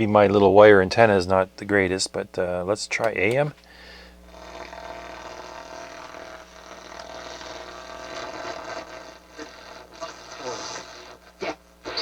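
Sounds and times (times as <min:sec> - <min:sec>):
faint steady whine: 0:00.0 - 0:12.0
radio static hiss and crackle: 0:00.2 - 0:12.0.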